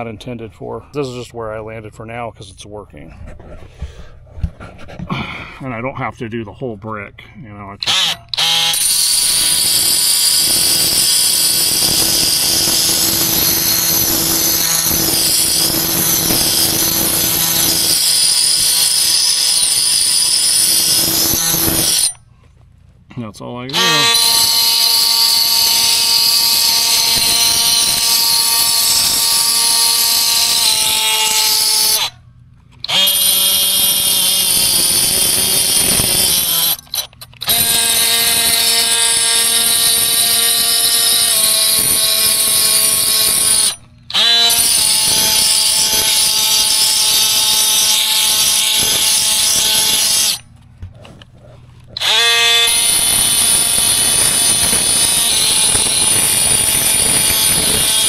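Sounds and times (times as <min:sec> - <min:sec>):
oscillating tool buzzing: 0:07.8 - 0:22.2, 0:23.7 - 0:32.2, 0:32.8 - 0:50.5, 0:52.0 - 0:58.0.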